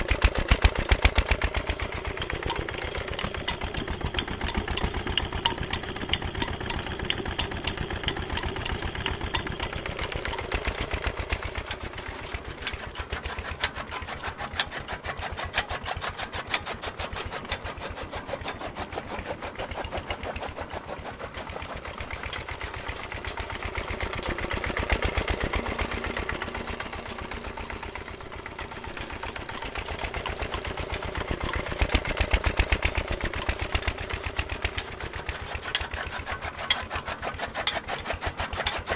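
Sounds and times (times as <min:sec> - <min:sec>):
chaff cutter and pulleys clattering: 0:00.0 - 0:38.9
stationary engine running: 0:00.0 - 0:38.9.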